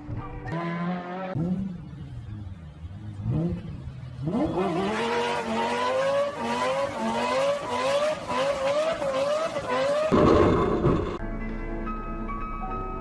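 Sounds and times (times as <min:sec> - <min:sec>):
car engine accelerating: 0:00.5 - 0:11.2.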